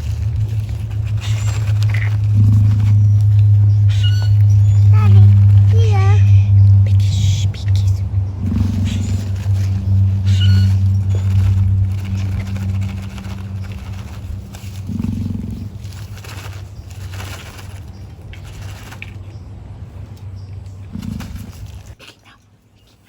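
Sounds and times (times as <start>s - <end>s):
emu drumming low drone: 0.0s - 22.0s.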